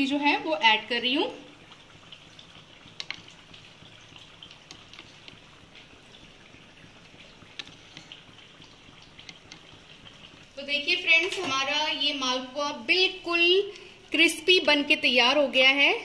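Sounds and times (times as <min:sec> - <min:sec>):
wet dripping cream: 0:00.0 - 0:12.5, 0:13.6 - 0:14.2.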